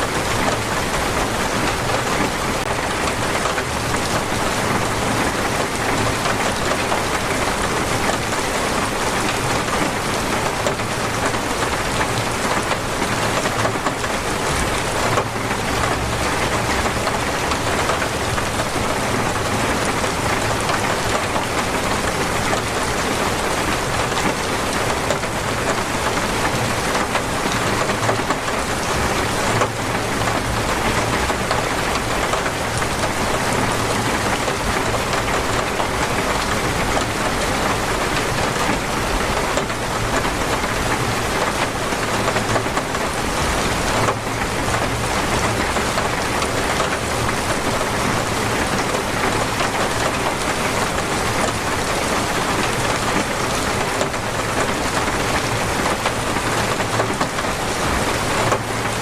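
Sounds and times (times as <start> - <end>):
heavy torrential rain: 0.0 - 59.0.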